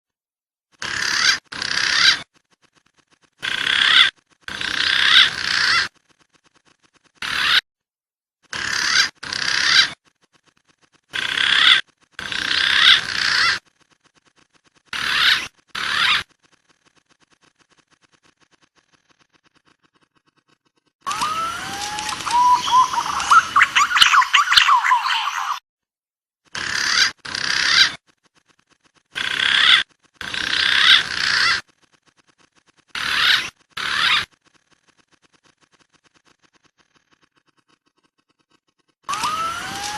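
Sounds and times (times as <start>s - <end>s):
pigeon calls: 0.8s - 7.6s, 8.5s - 25.6s, 26.5s - 28.5s, 29.1s - 31.8s, 32.4s - 37.8s.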